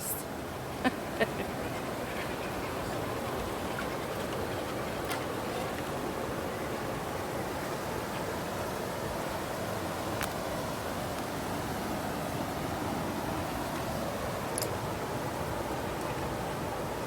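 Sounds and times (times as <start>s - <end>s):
river water rushing over falls: 0.0s - 17.0s.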